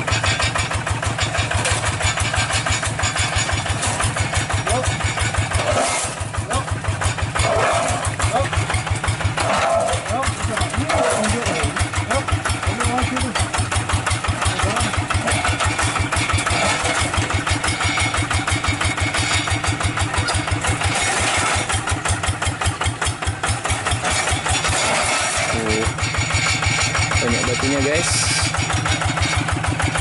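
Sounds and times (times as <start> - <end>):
diesel engine chugging: 0.0 - 30.0.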